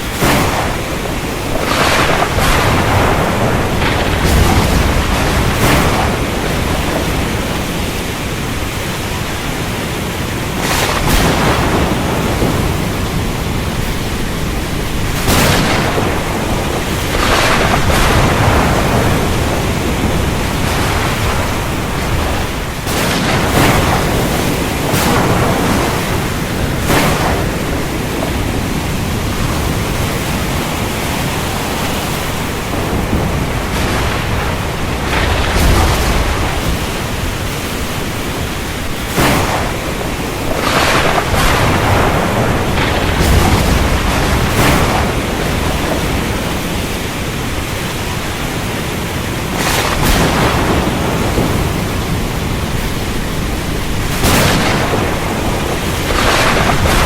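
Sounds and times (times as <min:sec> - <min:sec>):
heavy rain falling: 0:00.0 - 0:57.0
thunder cracks: 0:00.0 - 0:57.0.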